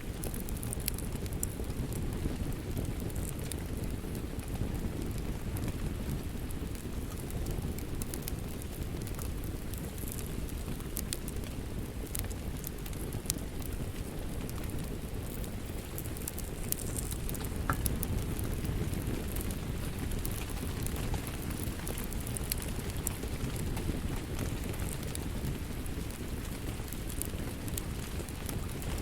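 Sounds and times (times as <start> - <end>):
fire popping and crackling: 0.0 - 29.0
fire rumbling: 0.0 - 29.0.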